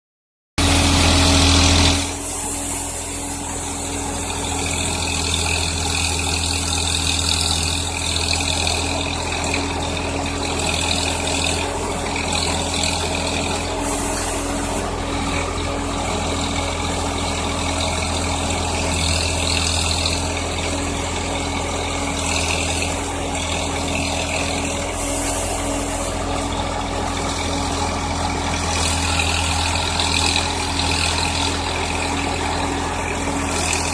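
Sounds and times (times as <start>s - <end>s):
tractor diesel engine running: 0.6s - 33.9s.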